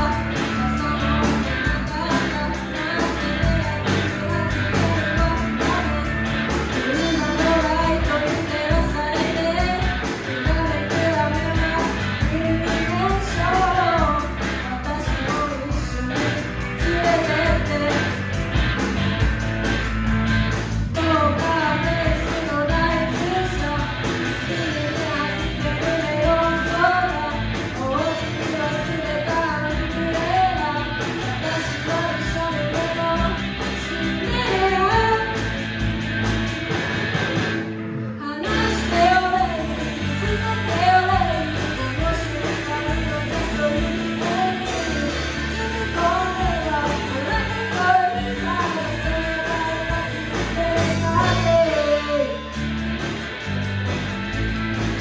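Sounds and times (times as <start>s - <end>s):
woman singing lead: 0.0s - 19.8s, 20.6s - 35.9s, 37.9s - 52.7s
live rock band playing: 0.0s - 55.0s.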